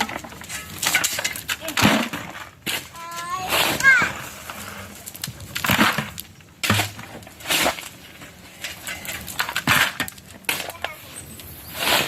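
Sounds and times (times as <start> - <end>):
rubble crunching and scraping: 0.0 - 12.0.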